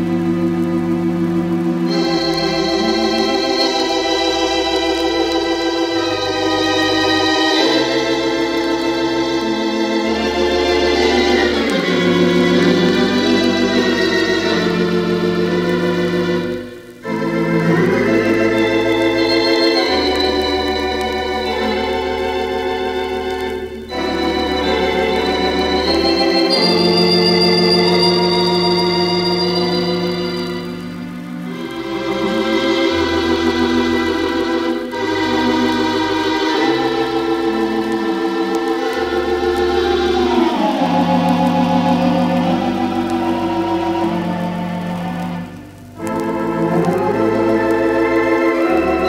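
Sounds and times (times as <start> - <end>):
pipe organ playing chords: 0.0 - 49.0.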